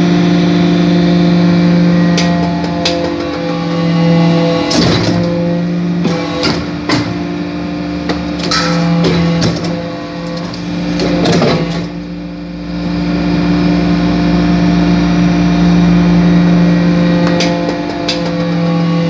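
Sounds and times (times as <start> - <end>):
hydraulic press humming: 0.0 - 19.0.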